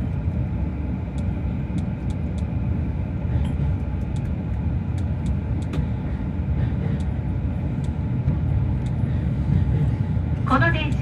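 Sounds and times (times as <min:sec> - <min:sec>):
train rumbling from inside: 0:00.0 - 0:11.0.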